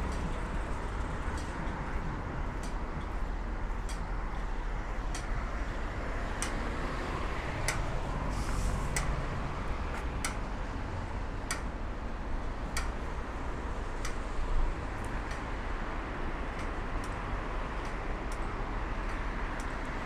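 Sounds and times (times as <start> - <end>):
crossing signal locator tone ticking: 0.0 - 8.2, 11.4 - 20.0
traffic rumble: 0.0 - 20.0.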